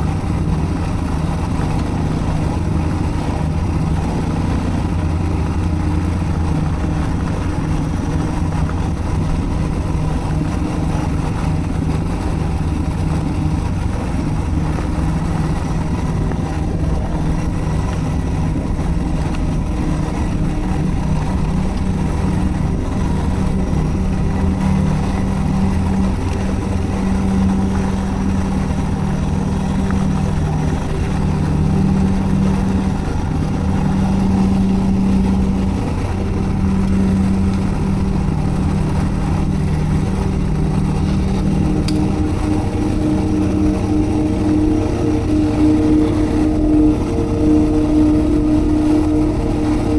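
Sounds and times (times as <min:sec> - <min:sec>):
motorcycle engine while riding: 0:00.0 - 0:49.9.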